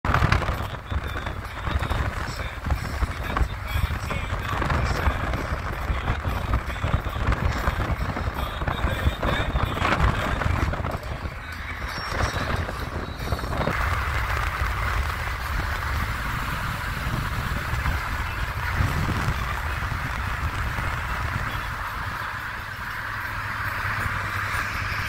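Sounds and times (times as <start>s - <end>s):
road noise rumble: 0.0s - 25.0s.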